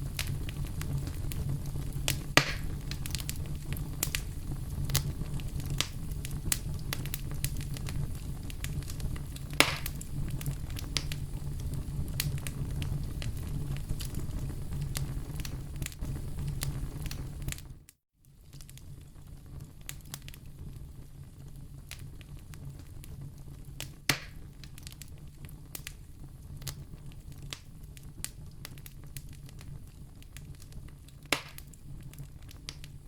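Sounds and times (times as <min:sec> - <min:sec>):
campfire crackling and popping: 0:00.0 - 0:33.0
low steady fire rumble: 0:00.0 - 0:33.0.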